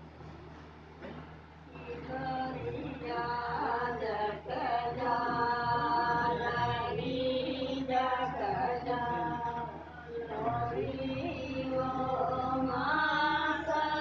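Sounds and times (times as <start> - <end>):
steady low hum: 0.0 - 14.0
person chanting mantra: 1.8 - 14.0.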